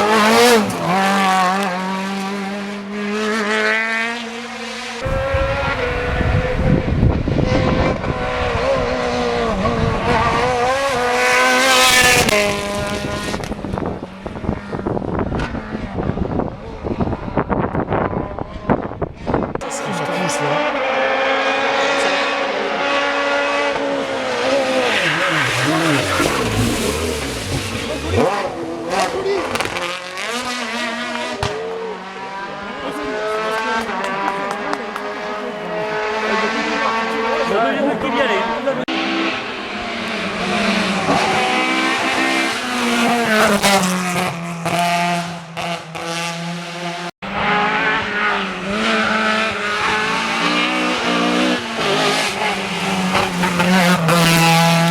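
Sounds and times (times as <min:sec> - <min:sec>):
rally car engine at high revs: 0:00.0 - 0:54.9.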